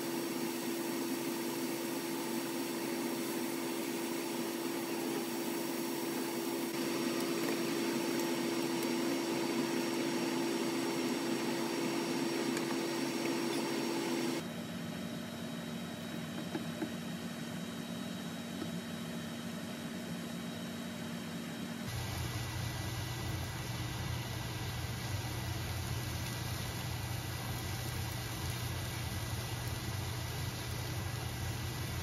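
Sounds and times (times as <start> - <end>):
steady hum: 1.1 - 32.0.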